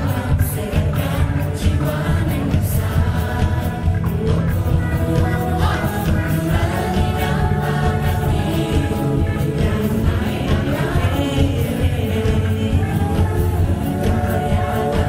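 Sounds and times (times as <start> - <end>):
choir singing: 0.0 - 15.0
instrumental backing music: 0.0 - 15.0.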